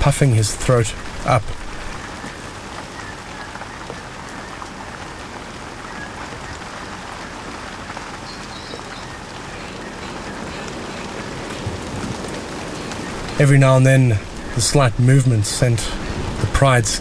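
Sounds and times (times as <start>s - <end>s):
light rain on grass: 0.0s - 17.0s.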